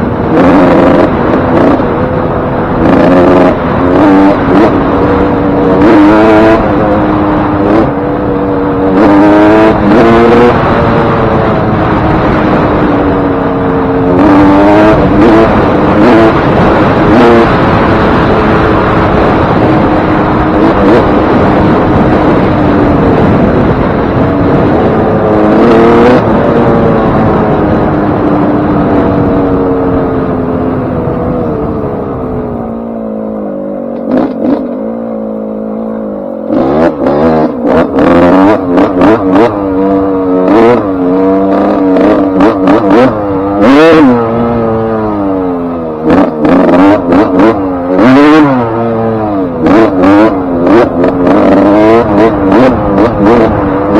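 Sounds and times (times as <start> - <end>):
two-stroke motocross engine revving: 0.0 - 53.9.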